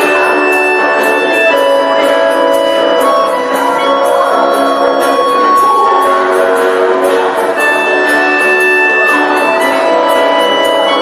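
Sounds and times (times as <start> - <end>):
ukulele ensemble music: 0.0 - 11.0.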